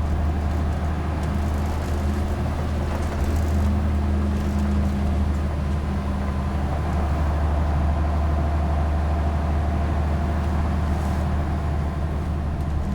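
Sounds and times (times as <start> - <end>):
bus engine drone: 0.0 - 12.9
road noise: 0.0 - 12.9.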